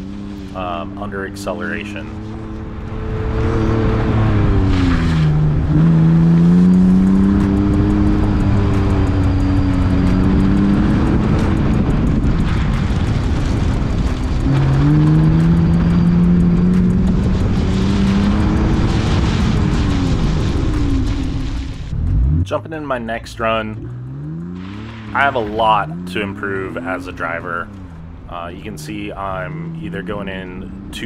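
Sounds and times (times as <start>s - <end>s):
car engine revving: 0.0s - 31.0s
wind and road noise: 0.0s - 31.0s.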